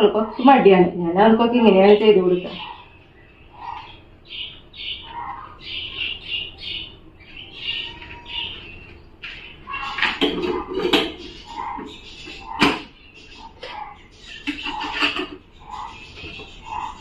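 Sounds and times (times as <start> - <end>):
birds calling short notes: 1.6 - 17.0.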